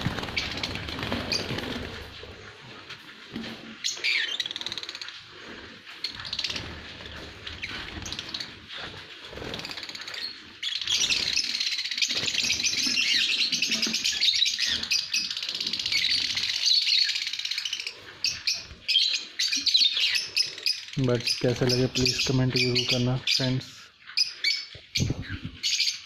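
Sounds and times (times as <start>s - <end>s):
birds chattering and chirping: 0.0s - 26.0s.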